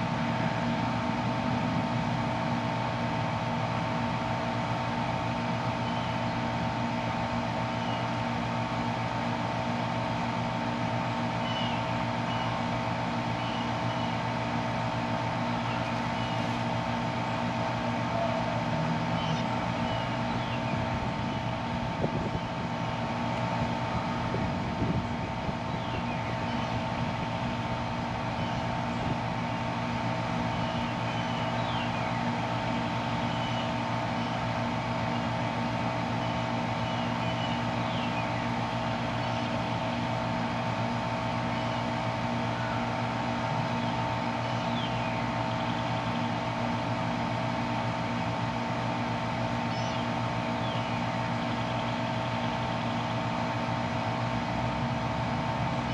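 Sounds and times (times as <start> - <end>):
high steady machine whine: 0.0 - 55.9
low electrical drone: 0.0 - 55.9.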